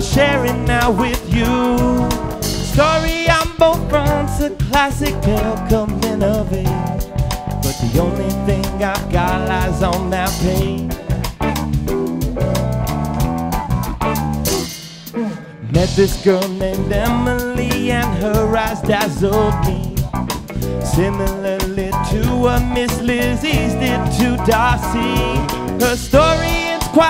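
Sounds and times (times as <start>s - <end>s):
man singing into a microphone: 0.0s - 11.2s, 15.6s - 20.1s, 20.8s - 27.0s
bass guitar: 0.0s - 27.0s
drum kit: 0.0s - 27.0s
electric guitar: 0.0s - 27.0s
keyboard: 0.0s - 27.0s.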